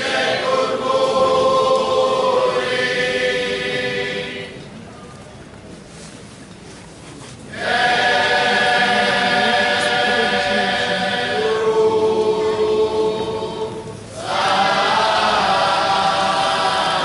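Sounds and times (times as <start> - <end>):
choir singing a solemn hymn: 0.0 - 4.7, 7.5 - 17.0.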